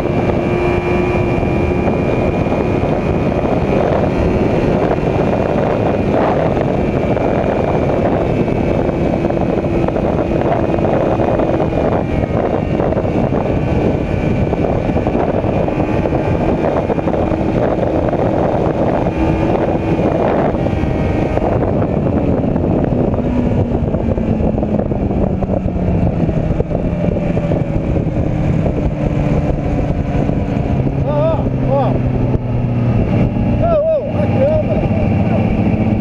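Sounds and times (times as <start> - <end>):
motorcycle engine cruising: 0.0 - 36.0
wind buffeting microphone: 0.0 - 36.0.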